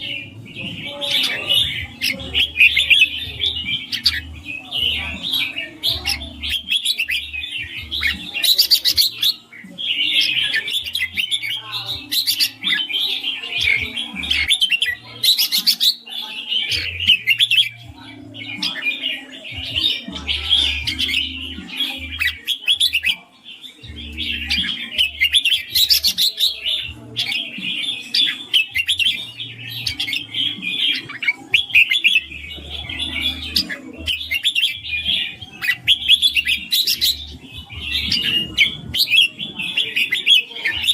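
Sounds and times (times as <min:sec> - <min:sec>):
bird singing chattering song: 0:00.0 - 0:40.9.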